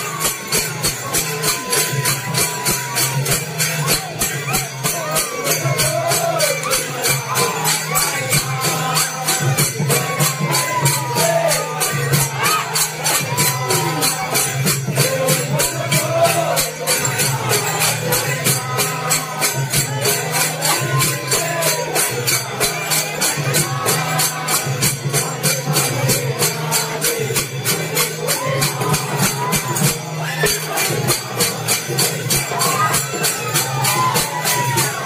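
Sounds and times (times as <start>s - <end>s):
hand drums beating: 0.0s - 35.0s
men singing or chanting: 0.0s - 35.0s
metallic cymbal jingle: 0.0s - 35.0s.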